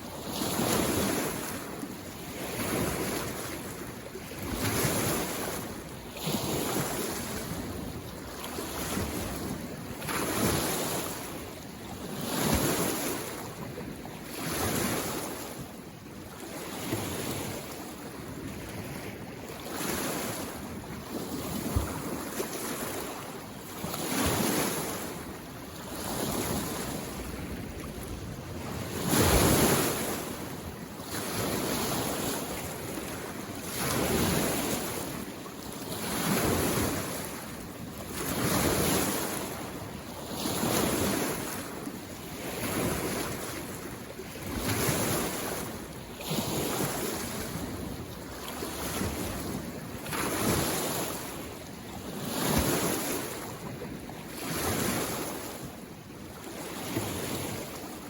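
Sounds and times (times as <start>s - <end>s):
lake waves lapping on shore: 0.0s - 58.0s.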